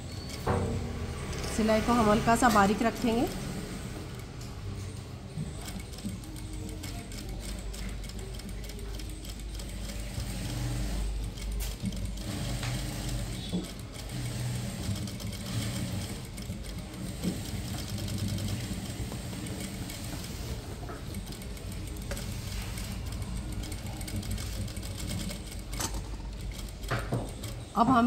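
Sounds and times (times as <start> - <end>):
sewing machine stitching: 0.0 - 28.0.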